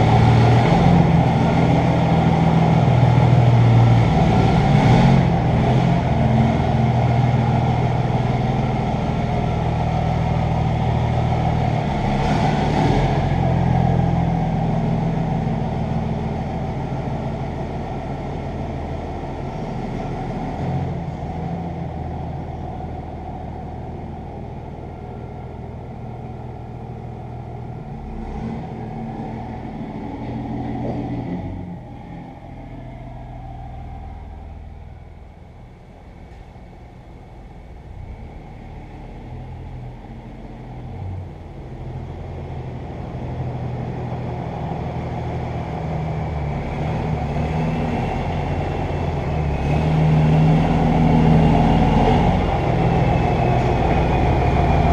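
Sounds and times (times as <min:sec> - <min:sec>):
diesel truck engine running: 0:00.0 - 0:54.9.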